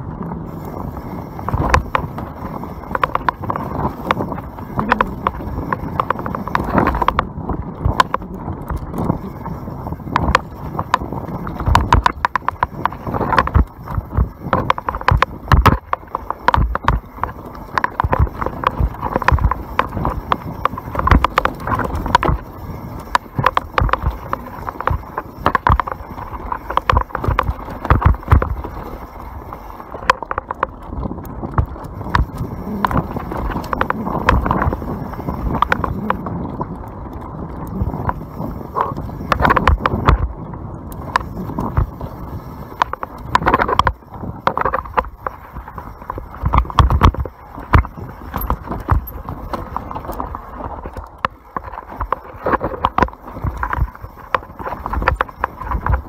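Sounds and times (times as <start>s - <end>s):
mountain bike rattling on trail: 0.0s - 56.0s.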